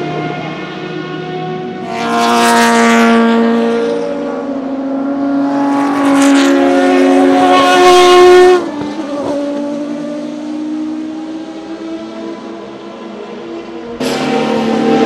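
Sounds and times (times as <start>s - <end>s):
racing car engine accelerating: 0.0s - 15.0s.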